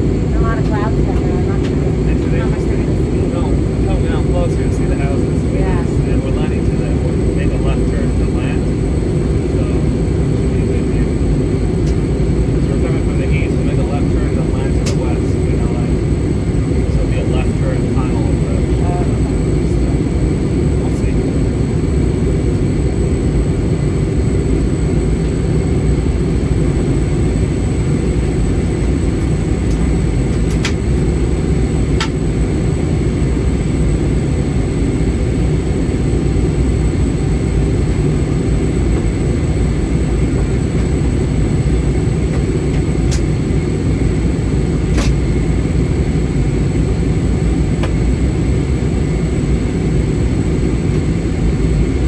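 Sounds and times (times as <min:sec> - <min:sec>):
airliner cabin engine roar: 0:00.0 - 0:52.0
faint high whine: 0:00.0 - 0:52.0.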